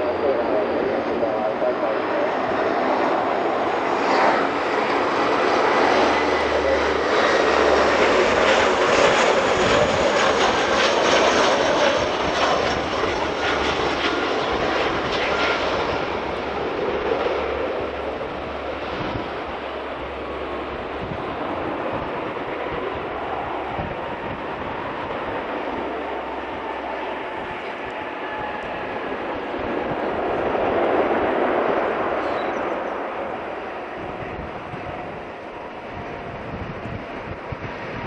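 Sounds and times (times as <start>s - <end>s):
turboprop engines at takeoff power: 0.0s - 38.0s.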